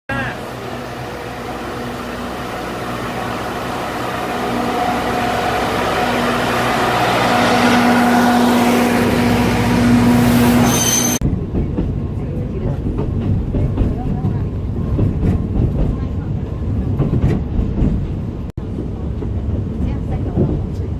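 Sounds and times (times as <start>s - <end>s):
train rumble with whine: 0.1s - 20.9s.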